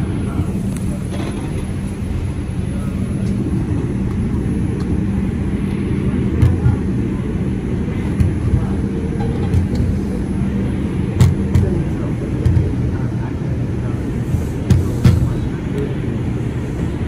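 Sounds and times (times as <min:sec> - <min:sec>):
constant hum: 0:00.0 - 0:17.0
train wheels rumbling on rail: 0:00.0 - 0:17.0.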